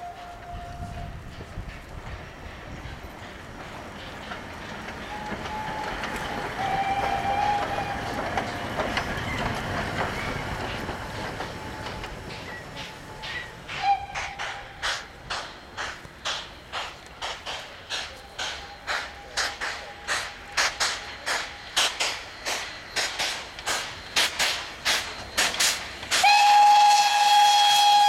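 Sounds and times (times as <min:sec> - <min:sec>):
steam locomotive exhaust chuffs: 0:00.0 - 0:28.0
steam locomotive rumbling and clattering: 0:00.0 - 0:28.0.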